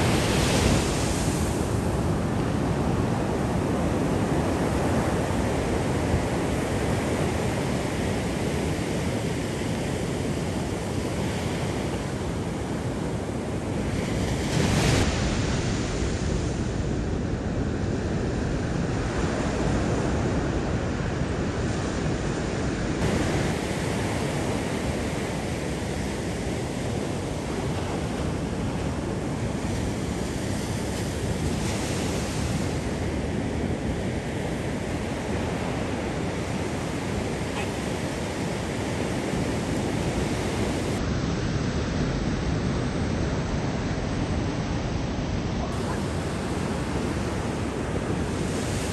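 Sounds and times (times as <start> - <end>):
ocean surf washing: 0.0 - 48.9
wind buffeting microphone: 0.0 - 48.9.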